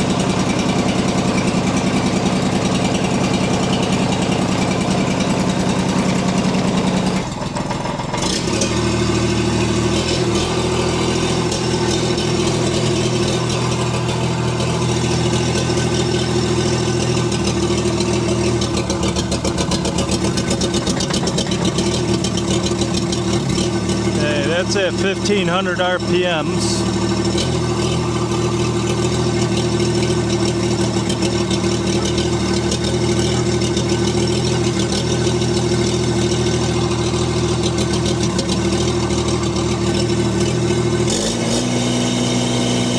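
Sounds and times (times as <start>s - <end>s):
engine running with misfire: 0.0s - 42.9s.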